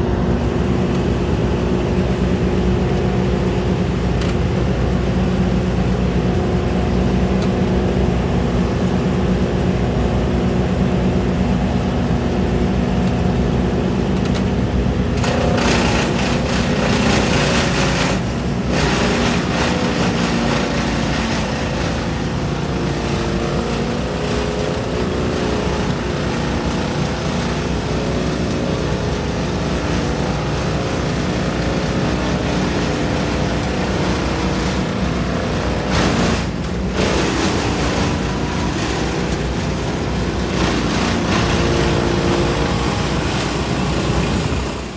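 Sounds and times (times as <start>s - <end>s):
brush chipper running: 0.0s - 44.9s
skid steer engine running: 0.0s - 44.9s.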